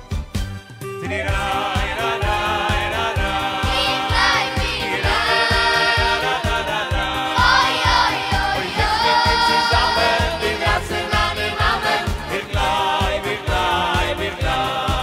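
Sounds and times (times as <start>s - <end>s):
keyboard: 0.0s - 15.0s
boys and men singing: 1.0s - 15.0s
steady drum beat: 1.3s - 15.0s.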